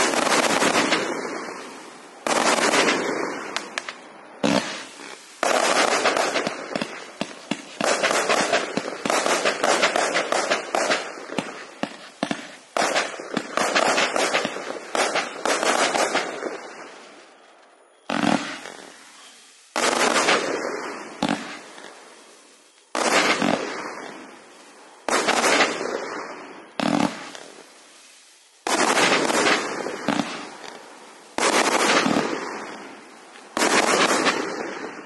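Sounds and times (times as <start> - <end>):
firework shots and bursts: 0.0 - 17.4, 18.0 - 22.1, 22.9 - 24.4, 25.0 - 27.7, 28.6 - 35.0.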